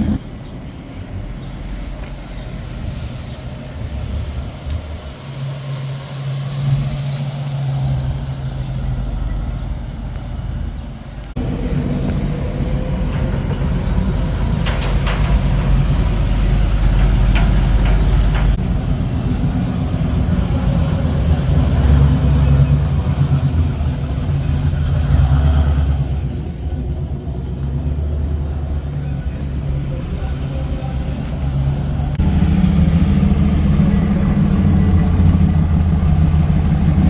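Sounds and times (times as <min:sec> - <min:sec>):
car engines running: 0:00.0 - 0:37.0
deep engine sound: 0:00.0 - 0:37.0.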